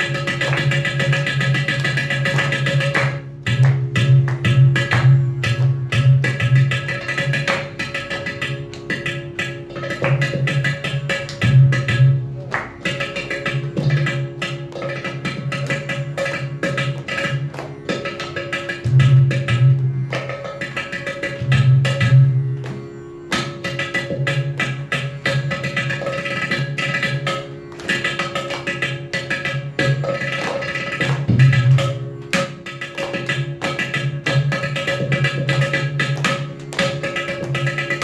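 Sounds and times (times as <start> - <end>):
drum and clay pot percussion: 0.0 - 38.0.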